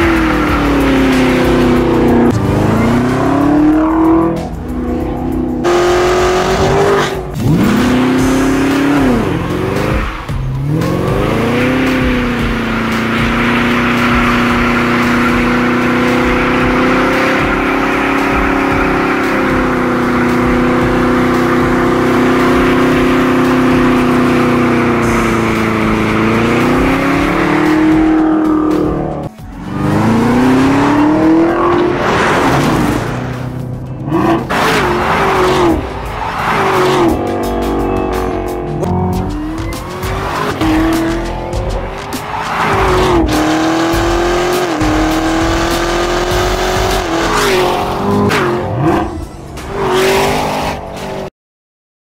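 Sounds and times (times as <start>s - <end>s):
car engine revving: 0.0s - 51.3s.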